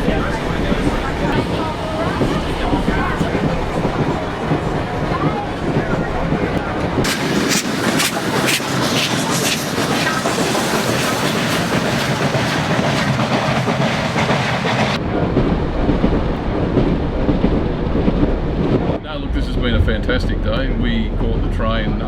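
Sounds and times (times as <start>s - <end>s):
steam train running: 0.0s - 22.0s.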